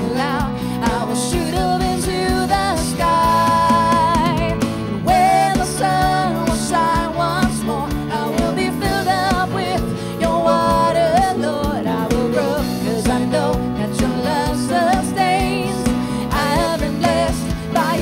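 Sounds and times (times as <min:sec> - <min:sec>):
live instrumental accompaniment: 0:00.0 - 0:18.0
woman singing with vibrato: 0:00.0 - 0:18.0.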